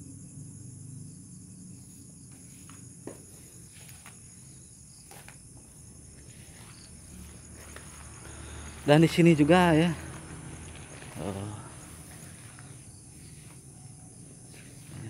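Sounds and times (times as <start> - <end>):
insect chorus chirring: 0.0 - 15.0.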